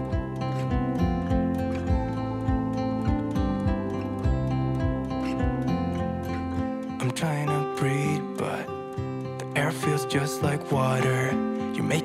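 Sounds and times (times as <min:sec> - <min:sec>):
instrumental pop music: 0:00.0 - 0:12.0.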